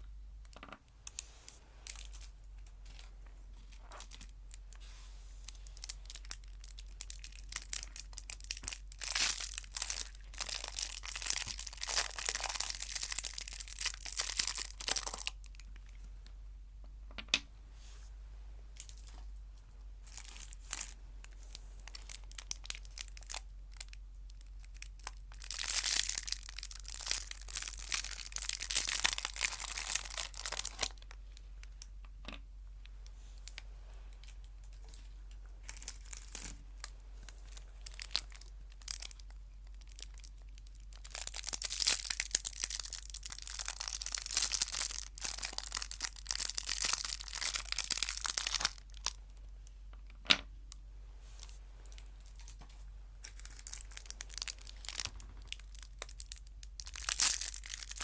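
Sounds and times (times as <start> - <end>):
wrappers crinkling and tearing: 1.1 - 16.0, 20.1 - 31.2, 33.4 - 33.6, 34.2 - 49.2, 51.3 - 58.0.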